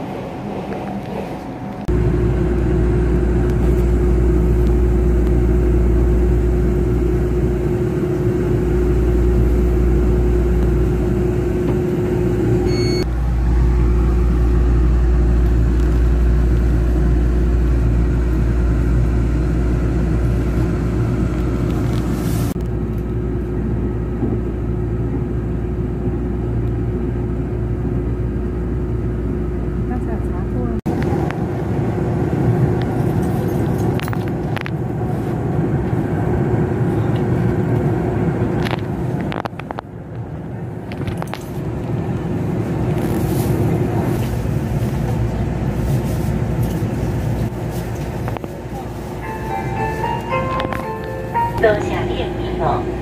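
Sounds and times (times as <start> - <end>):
constant hum: 0.0 - 53.0
train rumble inside carriage: 0.0 - 53.0.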